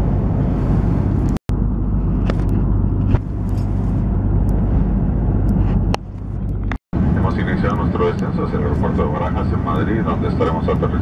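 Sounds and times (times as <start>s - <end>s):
airplane cabin roar in flight: 0.0s - 11.0s
low hum: 0.0s - 11.0s.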